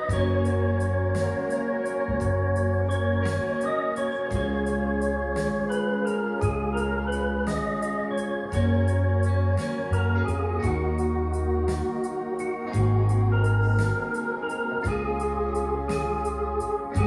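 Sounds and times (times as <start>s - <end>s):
electronic keyboard melody: 0.0s - 17.0s
steady ticking beat: 0.0s - 17.0s.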